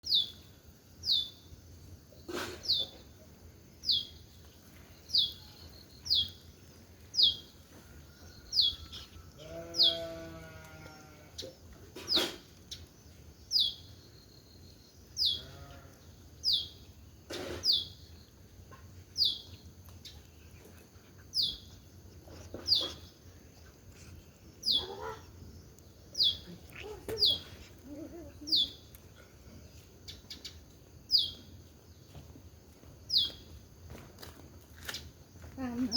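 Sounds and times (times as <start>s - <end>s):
small bird chirping: 0.0s - 32.2s, 33.0s - 33.6s.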